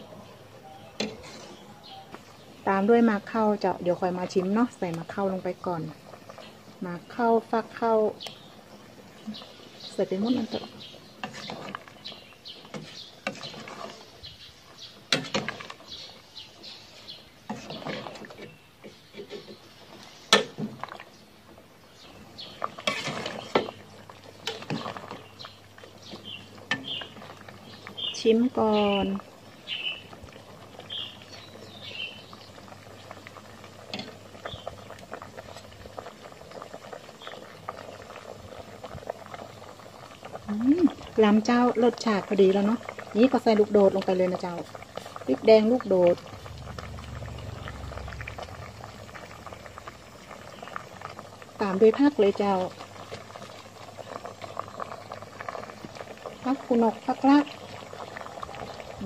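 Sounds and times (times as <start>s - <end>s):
broth boiling and bubbling in a pot: 0.0s - 59.0s.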